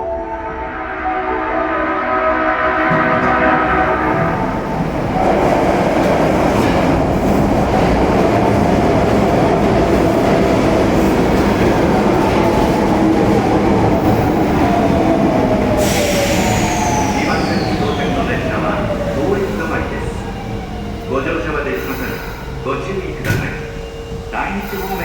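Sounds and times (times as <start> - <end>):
subway train wheel rumble: 0.0 - 25.0.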